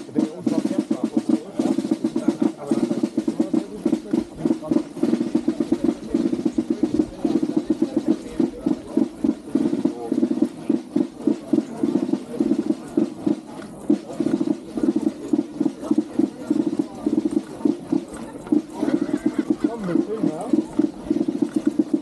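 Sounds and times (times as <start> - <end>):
snare drums rolling: 0.0 - 22.0.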